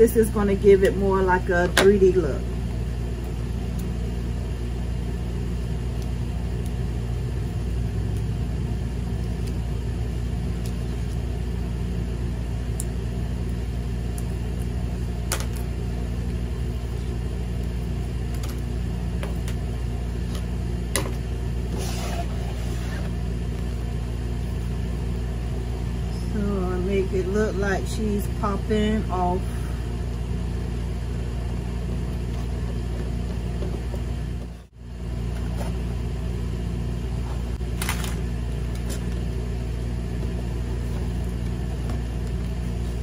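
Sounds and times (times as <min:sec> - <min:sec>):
motor humming: 0:00.0 - 0:43.0.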